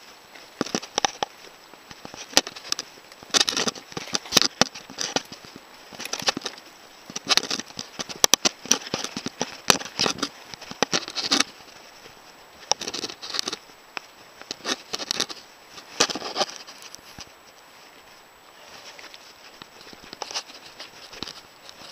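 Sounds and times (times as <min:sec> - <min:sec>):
bike rattling over dirt trail: 0:00.0 - 0:21.9.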